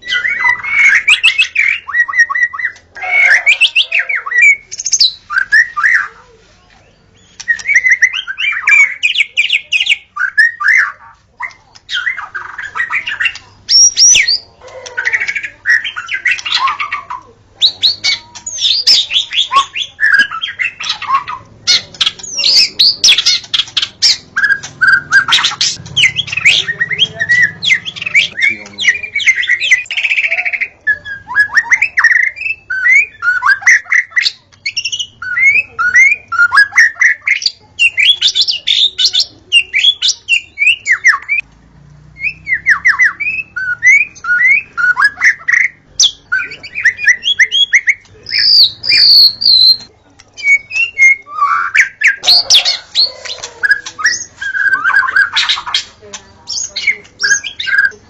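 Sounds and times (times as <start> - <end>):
bird singing whistled phrases: 0.0 - 6.1, 7.2 - 11.0, 17.6 - 41.4, 42.2 - 55.9.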